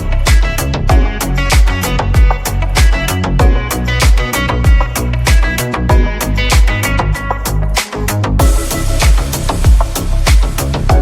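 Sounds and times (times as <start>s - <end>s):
background music with beat: 0.0s - 11.0s
bass drum: 0.0s - 11.0s
plucked guitar chords: 0.0s - 11.0s.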